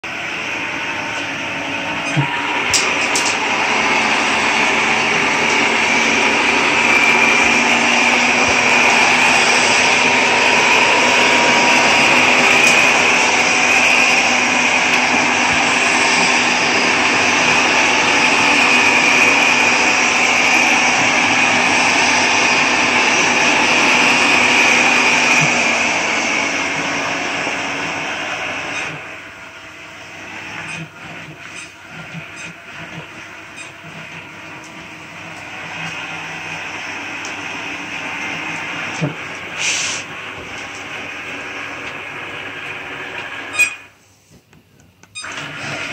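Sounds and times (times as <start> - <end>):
robot vacuum cleaner whirring: 0.1 - 43.9, 45.2 - 45.9.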